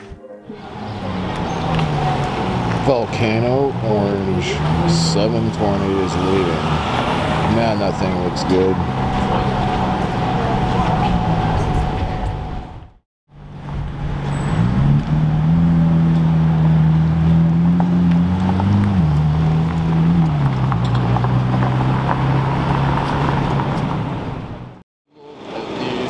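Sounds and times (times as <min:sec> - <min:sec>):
car engine running: 0:00.6 - 0:24.8.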